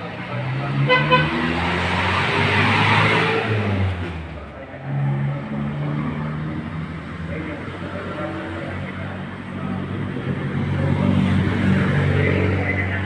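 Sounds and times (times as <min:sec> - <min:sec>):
vehicle engines in road traffic: 0:00.0 - 0:13.0.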